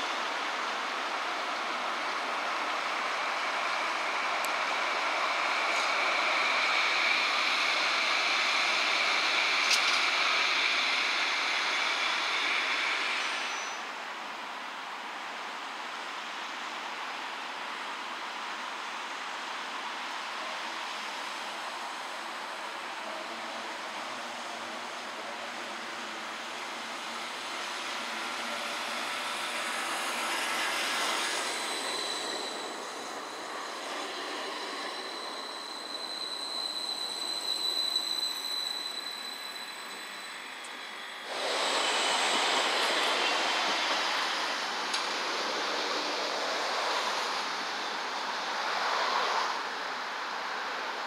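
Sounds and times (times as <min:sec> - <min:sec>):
tram wheels hissing on rail: 0:00.0 - 0:51.0.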